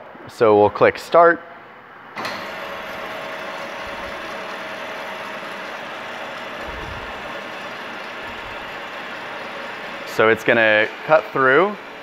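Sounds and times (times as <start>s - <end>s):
metal-cutting bandsaw running: 2.2s - 12.0s.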